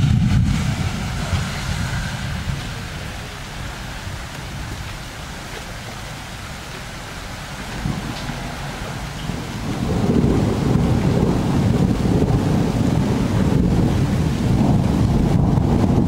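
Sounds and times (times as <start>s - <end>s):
steady rain: 0.0s - 16.0s
thunder rumble: 0.0s - 16.0s
wind: 0.0s - 16.0s.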